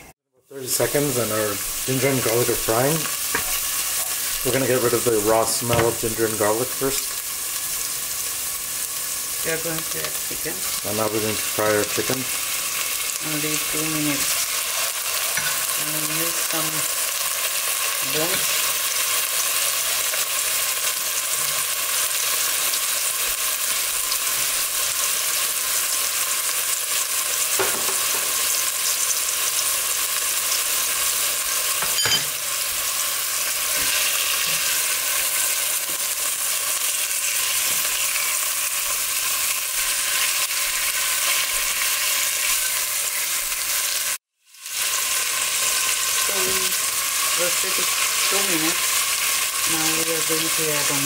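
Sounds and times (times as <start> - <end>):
chicken sizzling in hot oil: 0.5 - 51.0.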